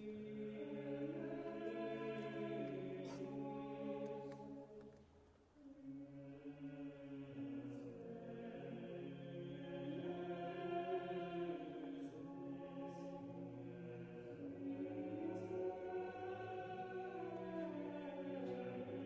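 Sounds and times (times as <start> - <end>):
choir singing held chords: 0.0 - 5.0, 5.6 - 19.0.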